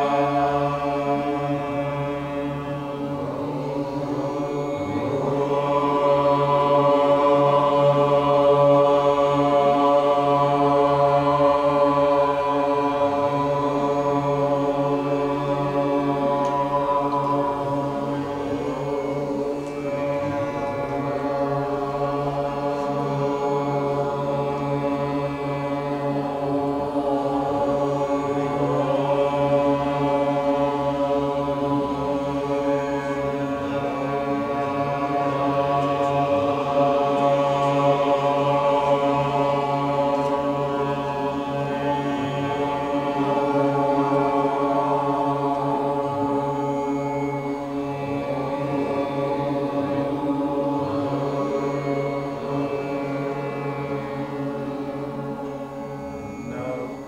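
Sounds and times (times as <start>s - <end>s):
group chanting: 0.0s - 57.0s.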